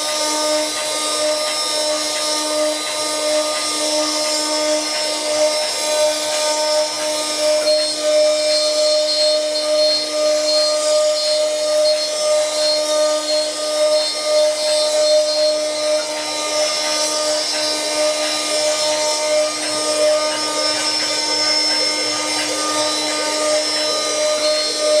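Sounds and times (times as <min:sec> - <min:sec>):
machine motor whine: 0:00.0 - 0:25.0.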